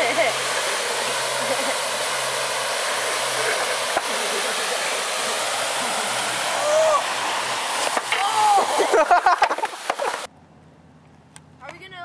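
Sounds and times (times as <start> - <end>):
water gushing from fire hydrant: 0.0 - 10.3.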